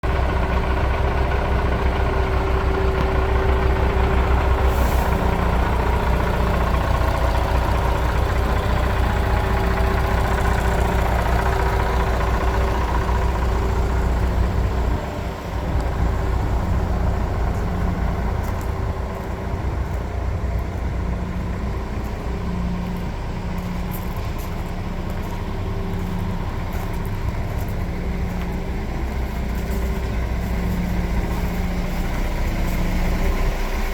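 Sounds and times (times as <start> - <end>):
truck diesel engine running: 0.0 - 33.9.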